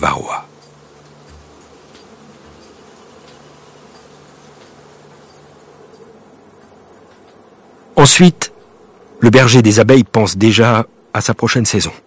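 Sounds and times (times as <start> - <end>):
honeybees buzzing: 0.0 - 11.8
cricket trill: 0.0 - 12.0.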